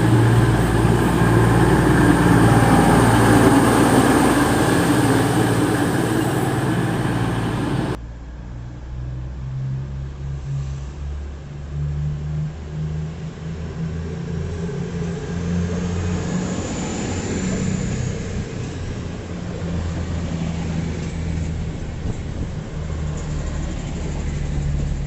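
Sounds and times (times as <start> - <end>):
train running through station: 0.0 - 9.0, 12.7 - 25.0
low engine hum: 0.0 - 25.0.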